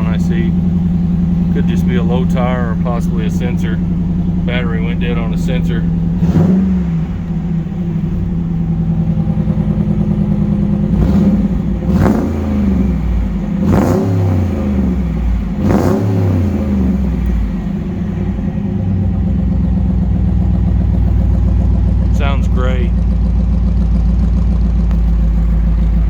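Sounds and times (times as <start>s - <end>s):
truck engine idling and revving: 0.0s - 26.0s.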